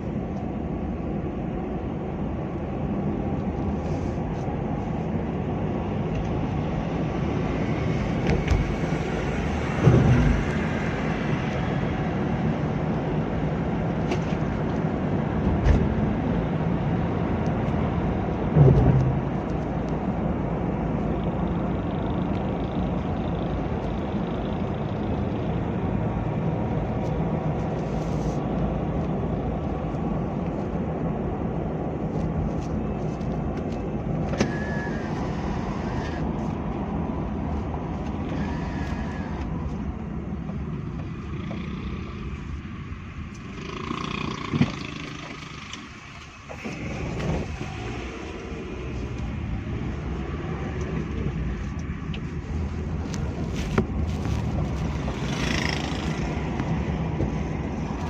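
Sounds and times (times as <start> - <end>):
vehicle engine and tyres rumbling: 0.0 - 58.0.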